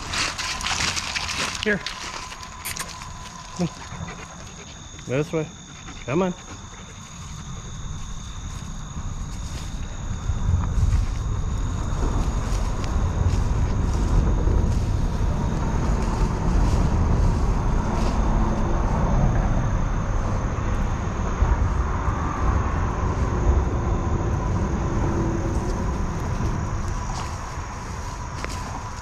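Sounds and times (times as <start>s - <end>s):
highway traffic rumble: 0.0s - 29.0s.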